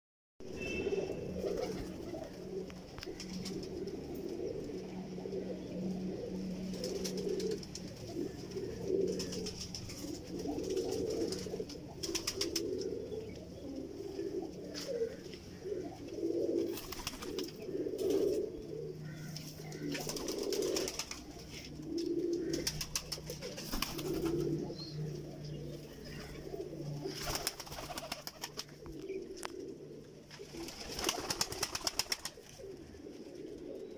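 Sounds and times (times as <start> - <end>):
pigeons cooing: 0.5 - 33.9.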